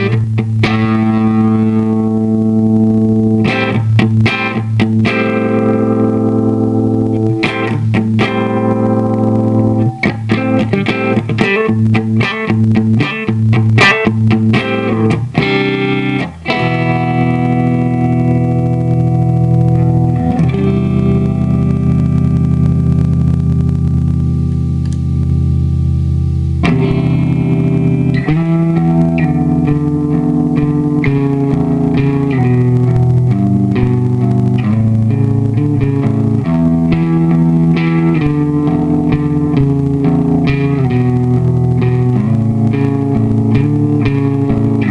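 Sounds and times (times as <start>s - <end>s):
electric guitar playing: 0.0s - 44.9s.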